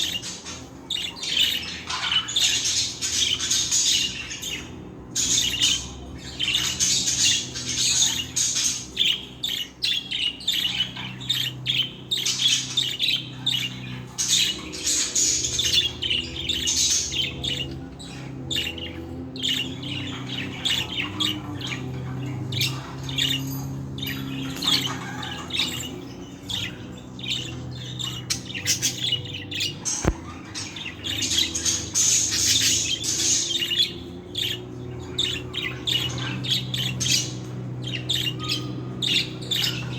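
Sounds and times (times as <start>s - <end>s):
budgerigars chattering: 0.0s - 39.9s
steady low hum: 0.0s - 39.9s.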